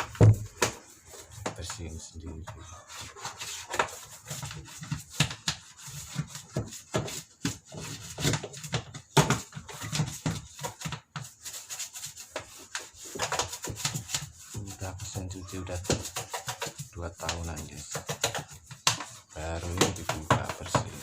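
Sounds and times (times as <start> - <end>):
toothbrush scrubbing plastic: 0.0 - 21.0.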